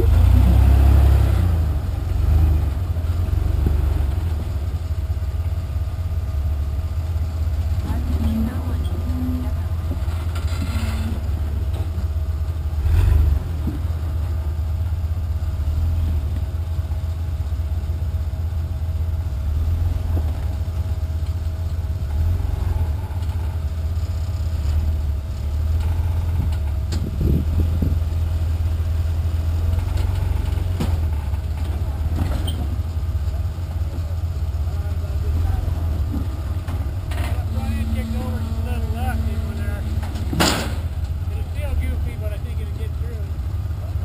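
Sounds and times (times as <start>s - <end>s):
buggy engine rumbling at low revs: 0.0s - 44.0s.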